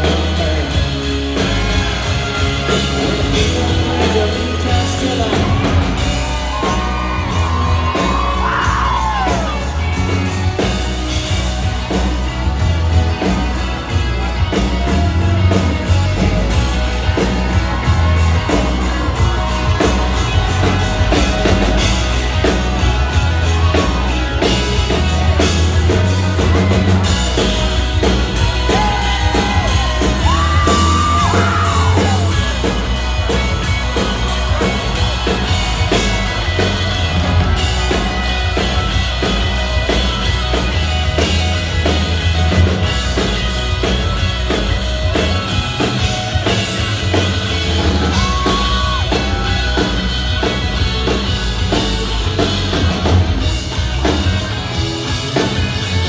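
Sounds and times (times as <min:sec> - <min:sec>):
country-rock band playing: 0:00.0 - 0:56.0
people yelling and whooping: 0:01.6 - 0:56.0.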